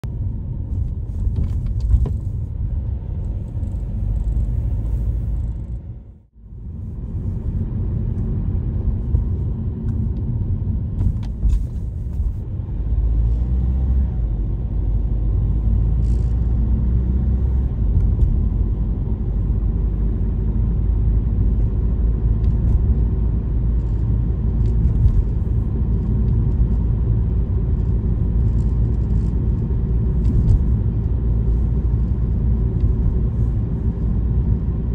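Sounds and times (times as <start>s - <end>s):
vehicle road and engine rumble: 0.0s - 34.9s.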